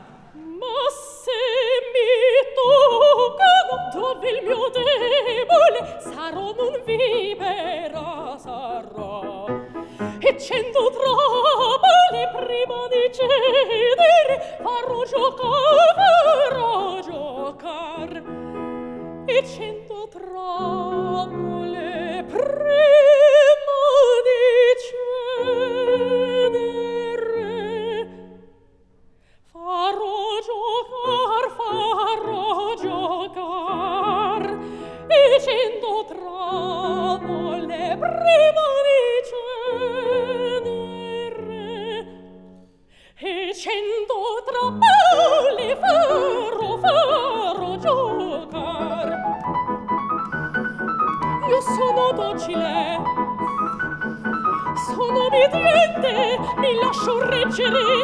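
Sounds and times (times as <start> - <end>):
grand piano: 0.0 - 28.5, 29.6 - 58.0
woman singing operatically: 0.4 - 18.3, 19.3 - 28.3, 29.6 - 42.2, 43.2 - 49.4, 51.4 - 53.2, 54.5 - 58.0.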